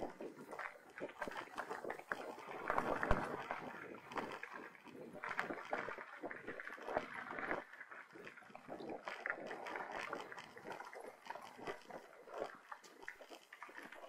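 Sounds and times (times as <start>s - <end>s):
bike tyres crunching on dirt trail: 0.0s - 14.0s.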